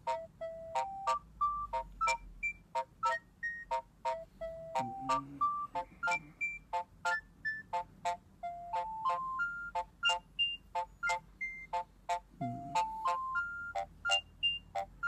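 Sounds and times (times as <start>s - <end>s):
electronic phone ringtone melody: 0.0s - 7.7s, 8.4s - 11.8s, 12.4s - 14.9s.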